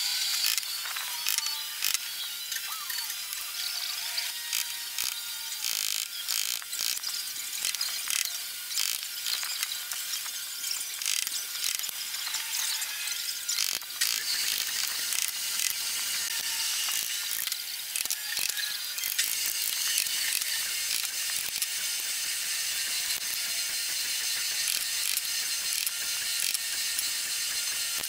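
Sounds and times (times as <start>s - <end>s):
chisel cutting wood: 0.0s - 28.0s.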